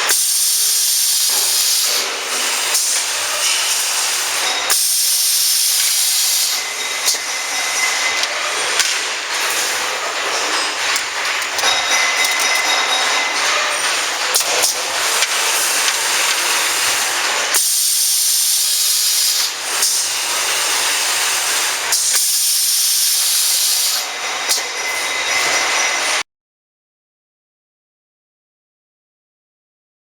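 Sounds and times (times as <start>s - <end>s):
wire bending machine hissing: 0.0s - 26.2s.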